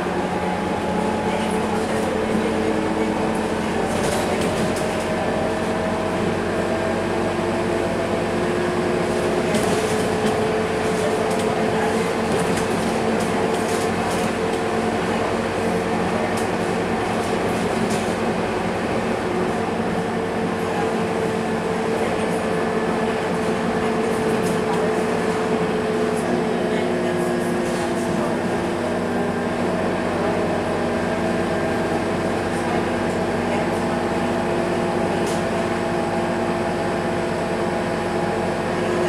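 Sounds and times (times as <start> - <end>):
bus engine whine: 0.0 - 39.0
road noise: 0.0 - 39.0.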